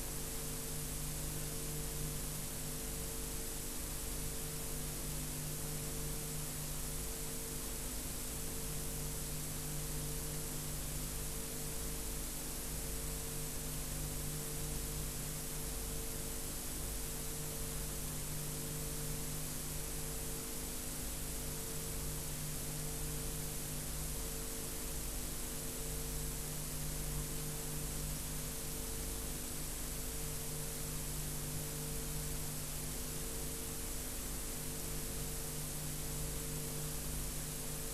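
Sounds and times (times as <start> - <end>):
low mains hum: 0.0 - 37.9.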